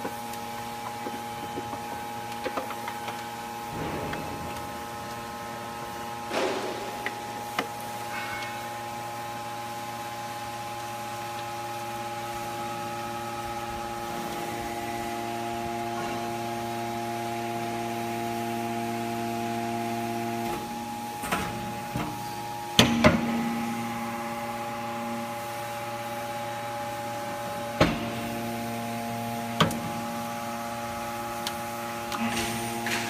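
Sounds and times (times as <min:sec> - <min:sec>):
hydraulic unit humming: 0:00.0 - 0:33.0.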